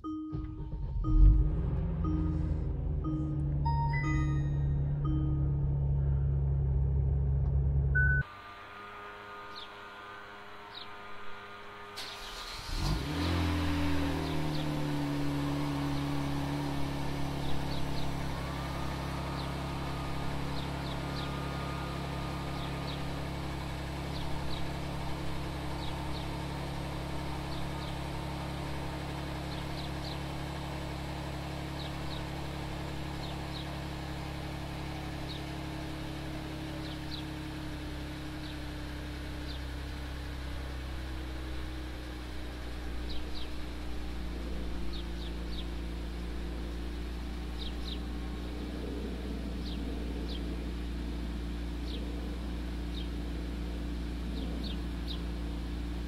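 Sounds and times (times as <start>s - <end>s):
car engine idling: 0.0s - 8.2s, 11.7s - 56.0s.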